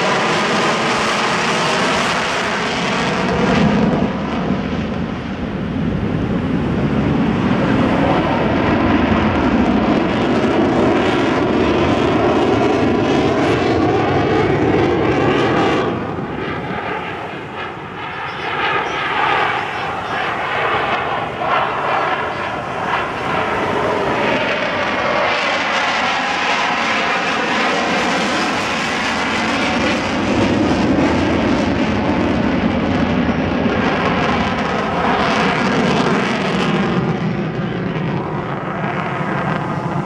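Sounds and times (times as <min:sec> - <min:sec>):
fighter jet engine roaring: 0:00.0 - 0:40.0.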